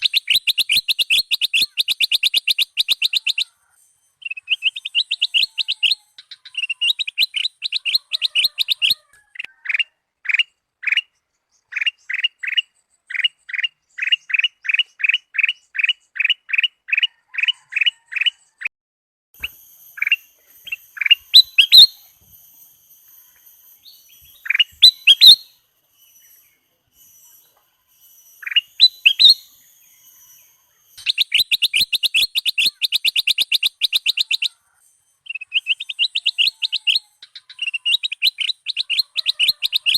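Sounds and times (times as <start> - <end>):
bird singing: 0.0 - 18.7, 19.4 - 39.9.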